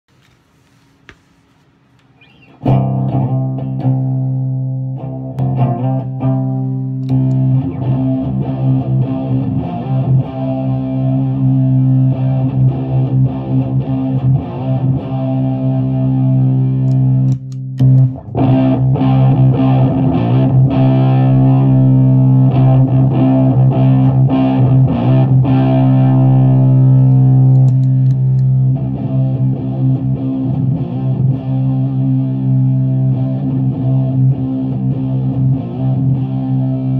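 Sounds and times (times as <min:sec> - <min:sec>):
fuzzed electric guitar chords: 0:02.6 - 0:36.9.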